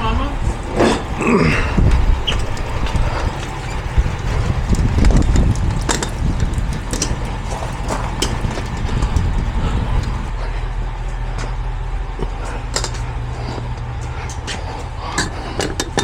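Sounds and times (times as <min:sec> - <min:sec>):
vehicle engine idling: 0:01.7 - 0:16.0.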